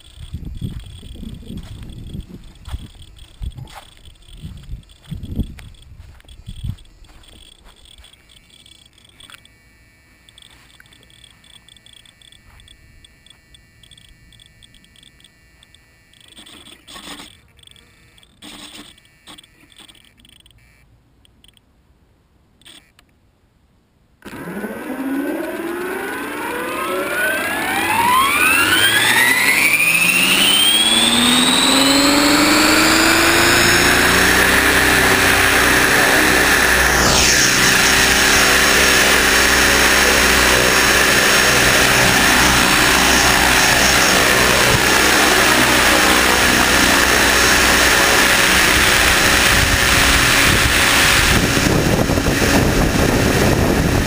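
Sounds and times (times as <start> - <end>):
rc helicopter motor and rotor whine: 0.0 - 20.8, 24.2 - 54.0.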